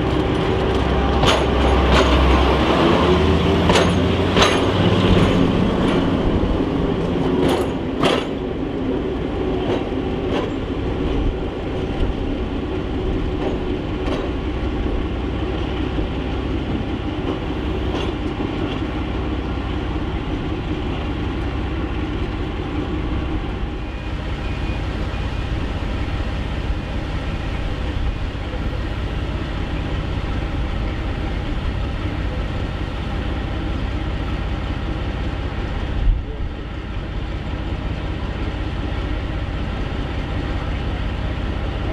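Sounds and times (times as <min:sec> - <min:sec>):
locomotive engine drone: 0:00.0 - 0:41.9.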